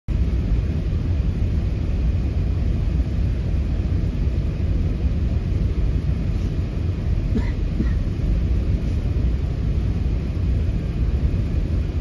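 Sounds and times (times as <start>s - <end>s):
airplane cabin engine rumble: 0.1s - 12.0s.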